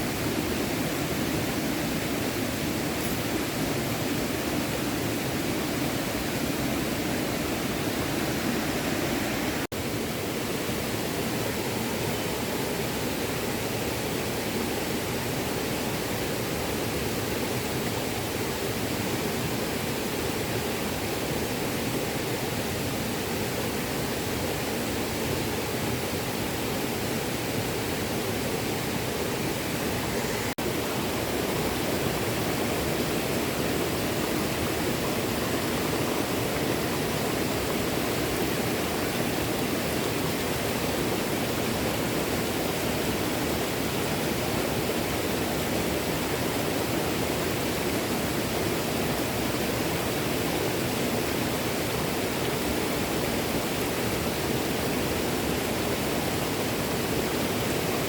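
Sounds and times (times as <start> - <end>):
small stream burbling: 0.0 - 58.0.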